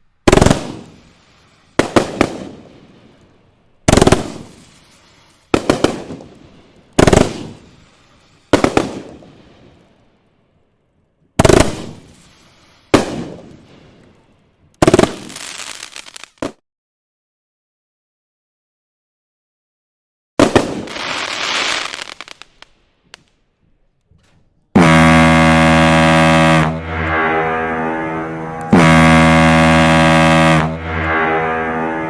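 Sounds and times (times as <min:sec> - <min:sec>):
fireworks booming: 0:00.0 - 0:10.1, 0:11.4 - 0:16.6, 0:20.4 - 0:32.0
fireworks crackling: 0:00.0 - 0:10.4, 0:11.2 - 0:16.6, 0:20.4 - 0:32.0.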